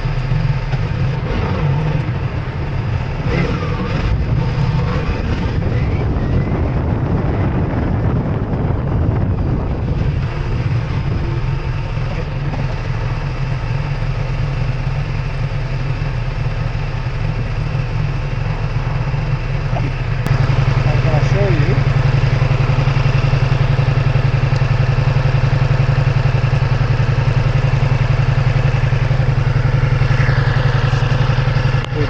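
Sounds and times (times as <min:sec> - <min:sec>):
motorcycle engine droning: 0:00.0 - 0:32.0
wind and road noise: 0:00.0 - 0:32.0.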